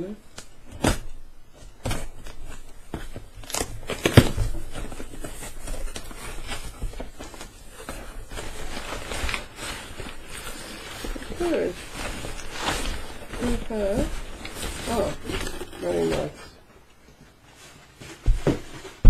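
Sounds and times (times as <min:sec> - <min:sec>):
cardboard packaging rustling: 0:00.3 - 0:19.0.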